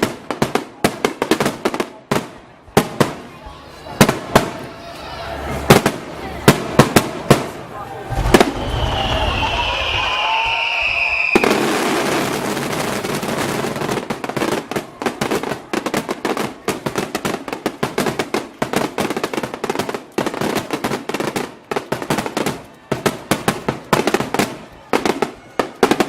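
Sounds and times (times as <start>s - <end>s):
fireworks sharp bangs: 0.0s - 4.7s, 5.5s - 26.0s
fireworks crackling: 0.0s - 26.0s.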